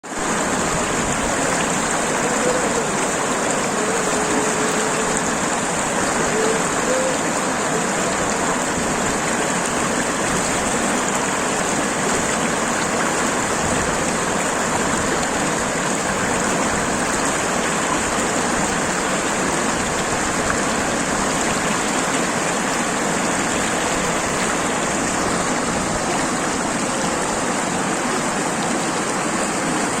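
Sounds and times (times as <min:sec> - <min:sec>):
river water rushing over stones: 0:00.0 - 0:30.0.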